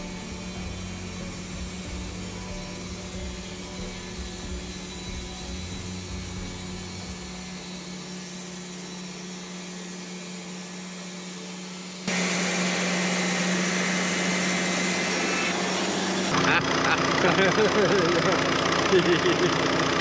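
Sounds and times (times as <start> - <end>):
band sawmill running: 0.0 - 20.0.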